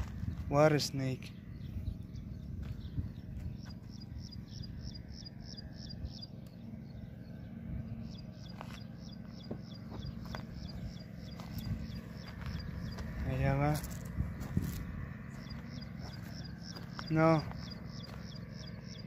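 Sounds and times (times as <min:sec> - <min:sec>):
low rumble: 0:00.0 - 0:19.0
small bird chirping: 0:01.3 - 0:19.0.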